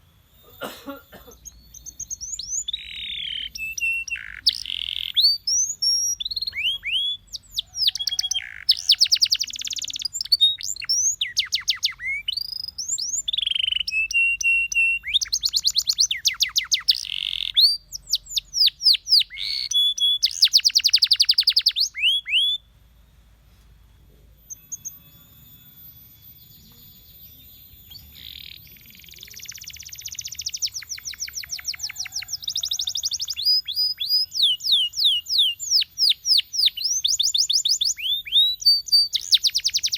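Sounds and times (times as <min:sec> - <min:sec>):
canary singing trills: 0:00.0 - 0:23.2, 0:23.8 - 0:39.9.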